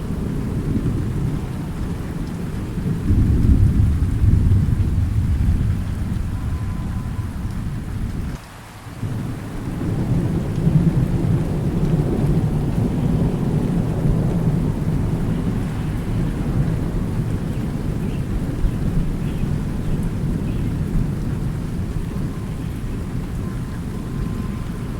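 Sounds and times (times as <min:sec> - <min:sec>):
rolling thunder rumble: 0:00.0 - 0:08.4, 0:09.0 - 0:24.9
steady rain: 0:00.0 - 0:24.9.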